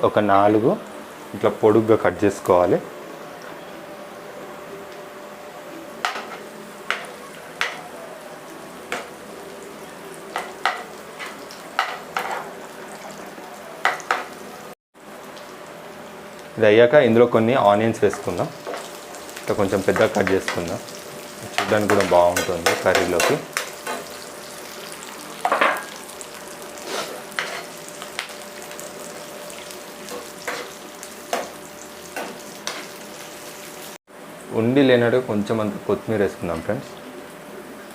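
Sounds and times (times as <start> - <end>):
food sizzling in a pan: 0.8 - 34.4.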